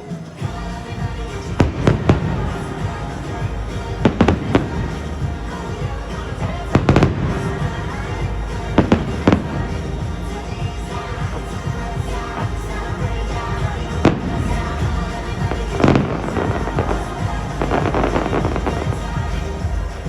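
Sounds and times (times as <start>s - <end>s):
fireworks bursting: 0.0s - 20.0s
music soundtrack: 0.0s - 20.0s.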